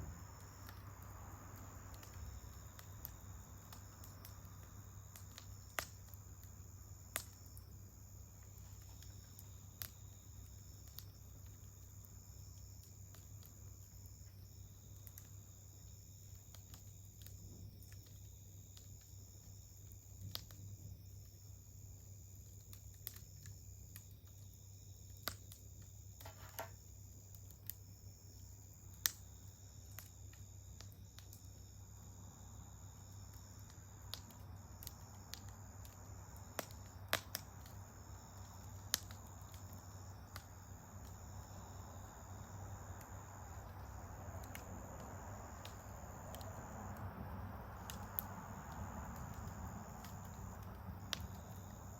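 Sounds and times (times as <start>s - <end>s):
campfire crackling and popping: 0.0s - 51.9s
insect trill: 0.0s - 51.9s.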